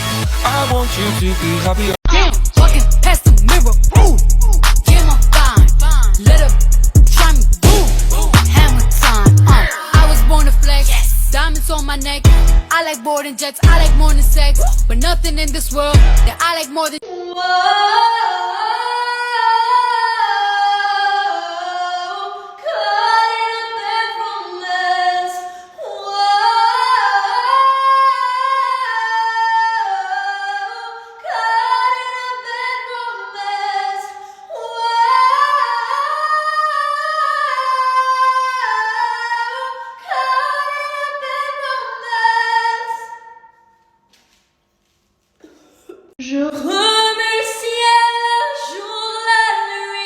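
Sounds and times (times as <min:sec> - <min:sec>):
woman singing alone: 0:04.8 - 0:43.4, 0:46.2 - 0:50.0.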